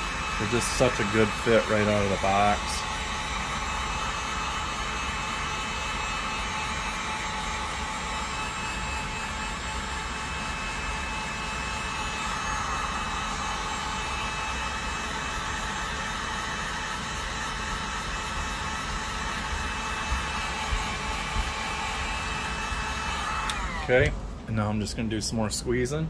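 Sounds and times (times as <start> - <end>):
heat gun fan hissing: 0.0 - 24.4.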